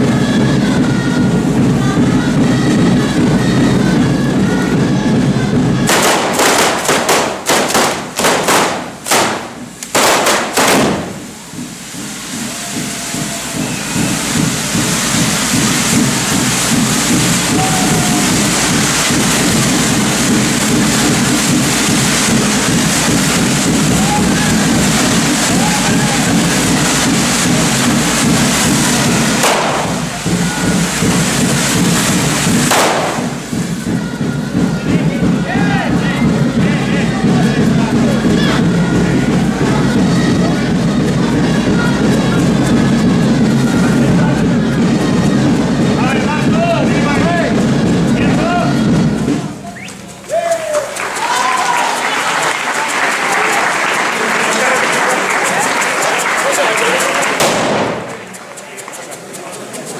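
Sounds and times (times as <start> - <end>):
loud firecracker bangs: 0.2 - 49.5, 55.5 - 58.8
spark fountains hissing and crackling: 5.6 - 59.9.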